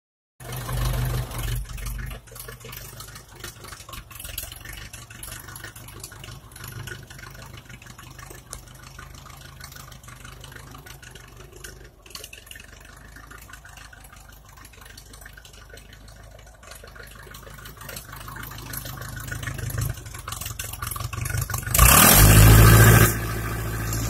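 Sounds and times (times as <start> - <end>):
tractor engine idling: 0.4 - 24.0.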